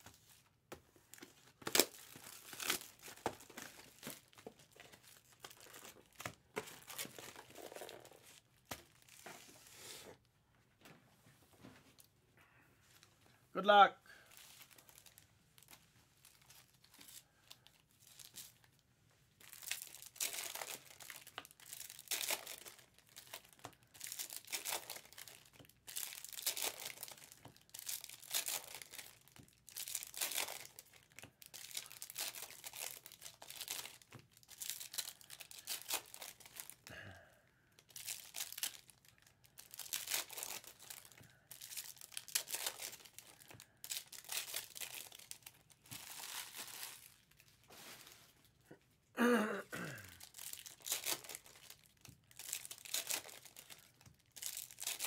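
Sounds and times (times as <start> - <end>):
foil wrappers crinkling and tearing: 1.1 - 9.6, 14.2 - 18.8, 19.4 - 37.0, 37.8 - 48.5, 50.0 - 55.0.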